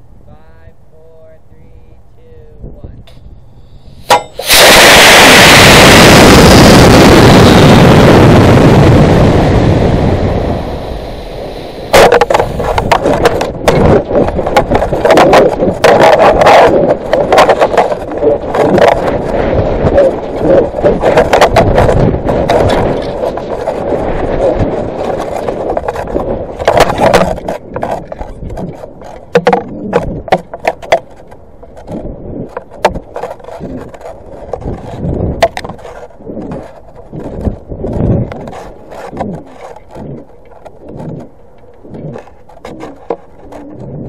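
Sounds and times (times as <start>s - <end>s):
wind rushing over camera: 0.0s - 44.0s.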